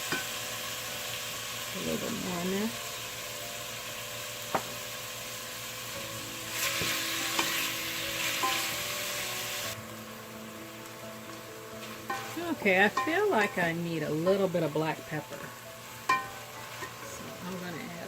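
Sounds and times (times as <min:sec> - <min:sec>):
chicken and onion sizzling in pan: 0:00.0 - 0:18.0.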